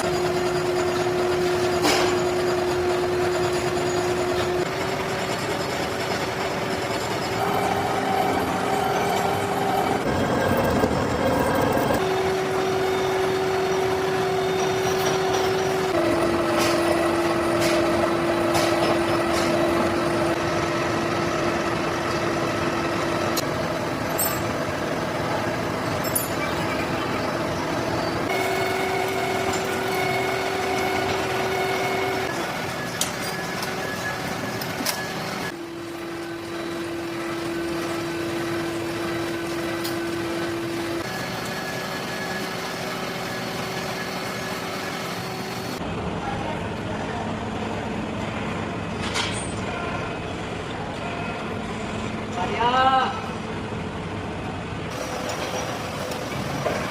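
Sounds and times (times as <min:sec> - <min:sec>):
machine whine: 0:00.0 - 0:46.2.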